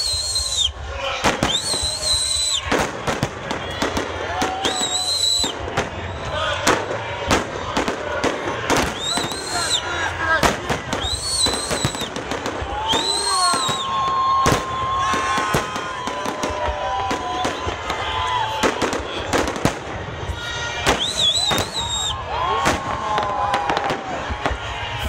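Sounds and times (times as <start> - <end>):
fireworks bangs: 0.0 - 25.0
fireworks whistling: 0.0 - 25.0.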